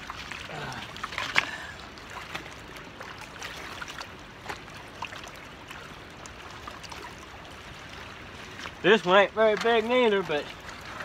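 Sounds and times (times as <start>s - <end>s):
river water lapping on rocks: 0.0s - 11.0s.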